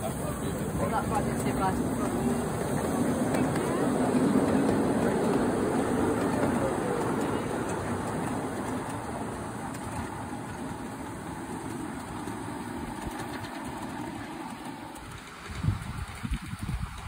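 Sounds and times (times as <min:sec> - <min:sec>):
miniature train running on track: 0:00.0 - 0:17.0.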